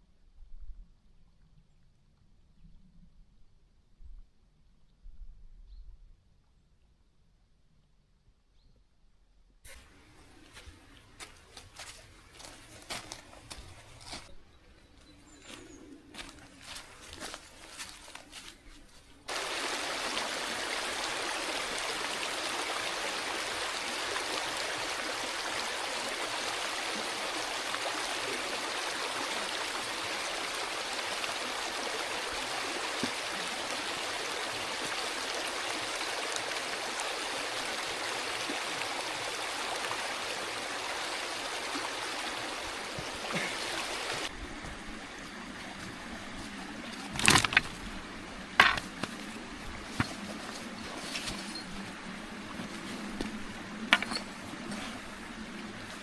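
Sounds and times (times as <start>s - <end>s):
flowing stream: 9.7s - 14.3s, 15.3s - 56.0s.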